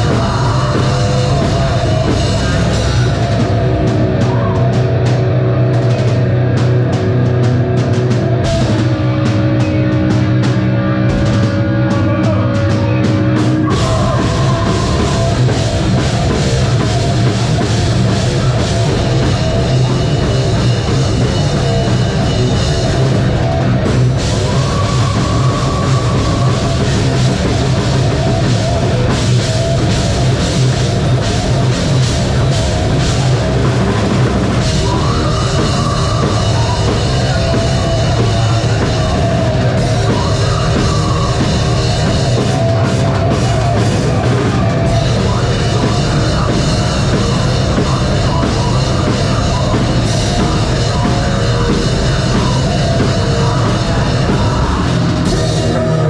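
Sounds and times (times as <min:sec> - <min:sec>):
bass guitar: 0:00.0 - 0:56.0
distorted guitars: 0:00.0 - 0:56.0
heavy metal band playing: 0:00.0 - 0:56.0
pounding drum kit: 0:00.0 - 0:56.0.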